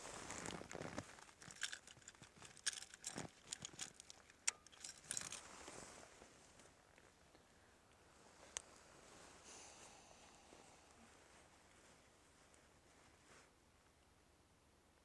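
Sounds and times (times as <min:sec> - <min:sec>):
rustling: 0:00.0 - 0:13.6.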